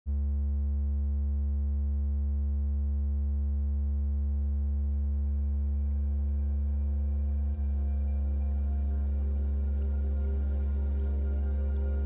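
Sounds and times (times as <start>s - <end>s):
low sine tone hum: 0.1s - 12.0s.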